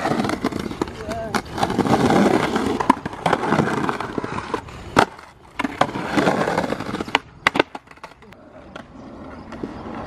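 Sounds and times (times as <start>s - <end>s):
skateboard clacks: 0.0s - 10.0s
skateboard wheels rolling on concrete: 0.0s - 10.0s.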